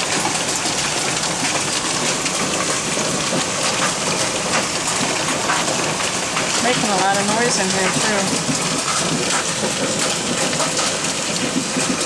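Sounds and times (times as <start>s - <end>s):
heavy rain and hail pelting: 0.0s - 12.0s.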